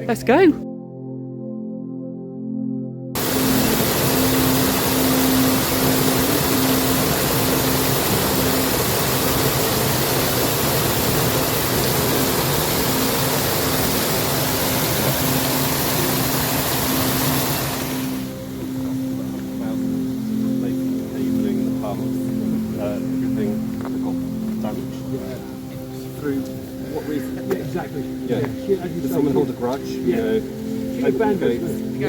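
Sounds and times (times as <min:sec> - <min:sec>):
soft background music: 0:00.0 - 0:32.0
heavy rain hissing: 0:03.2 - 0:32.0.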